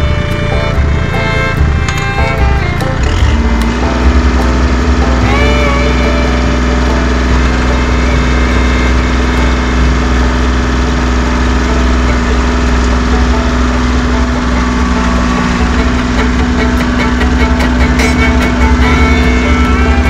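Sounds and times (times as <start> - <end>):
tractor engines under load: 0.0 - 20.0.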